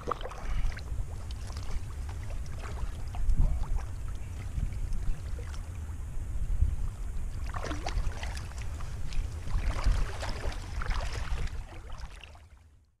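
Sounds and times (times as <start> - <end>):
low rumble: 0.0 - 12.2
water splashing and sloshing: 0.0 - 13.0.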